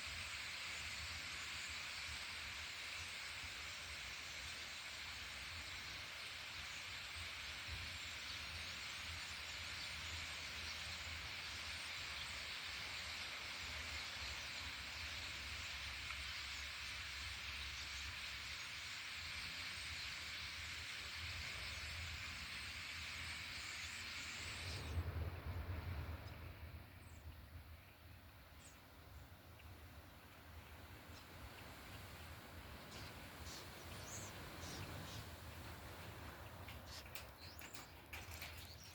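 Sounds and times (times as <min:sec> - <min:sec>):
flock of birds chattering: 0:04.2 - 0:38.9.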